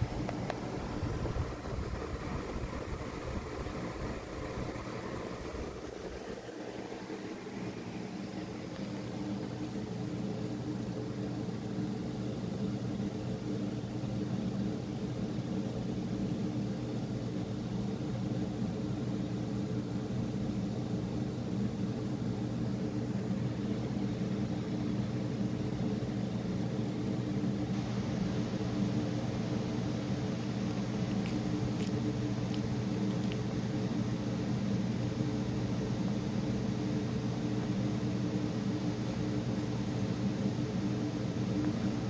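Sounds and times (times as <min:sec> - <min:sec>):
machine hum with low drone: 0:00.0 - 0:42.0.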